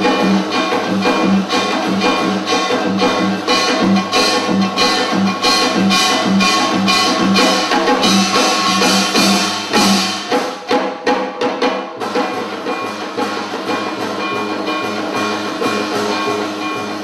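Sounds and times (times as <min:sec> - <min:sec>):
hourglass drum struck with sticks: 0:00.0 - 0:17.0
light regular drum beat: 0:00.0 - 0:17.0.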